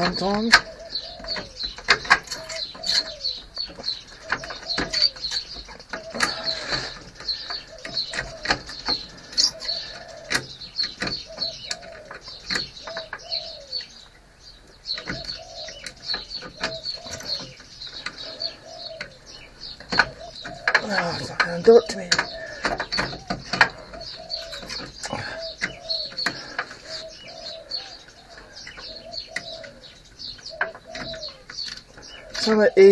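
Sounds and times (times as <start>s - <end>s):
birds chirping and cooing: 0.0s - 32.9s.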